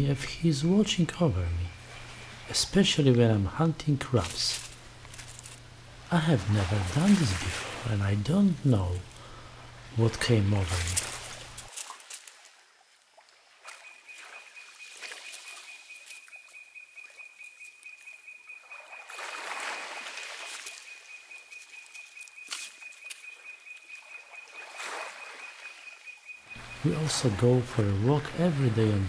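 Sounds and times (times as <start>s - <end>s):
small waves on gravel shore: 1.8s - 16.3s, 18.7s - 23.6s, 24.4s - 29.0s.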